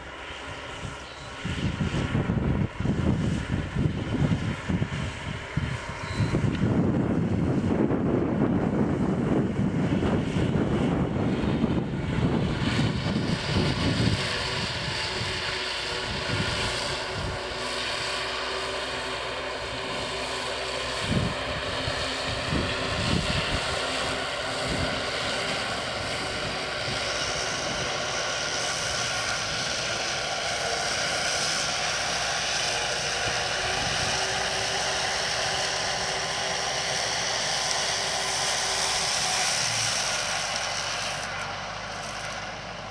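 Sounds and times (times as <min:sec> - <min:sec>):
tractor diesel engine running: 0:00.0 - 0:42.9
wind buffeting microphone: 0:00.5 - 0:42.9.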